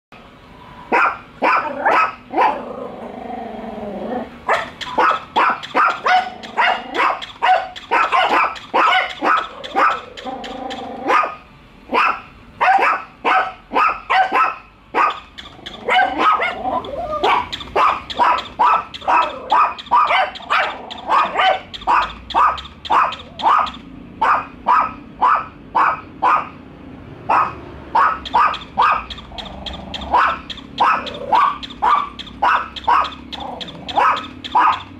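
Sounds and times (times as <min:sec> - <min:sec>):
small dogs barking rapidly: 0:00.8 - 0:03.0, 0:04.2 - 0:26.6, 0:27.2 - 0:34.9.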